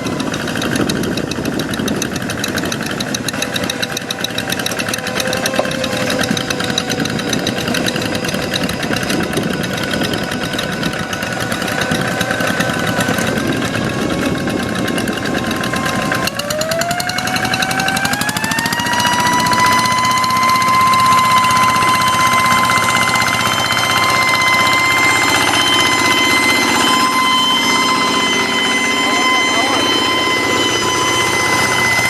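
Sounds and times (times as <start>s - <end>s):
diesel engine chugging: 0.0s - 32.0s.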